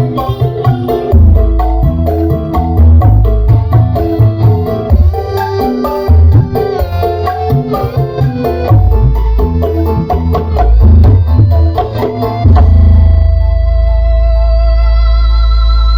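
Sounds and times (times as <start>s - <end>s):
hand drum music with deep bass: 0.0s - 14.6s.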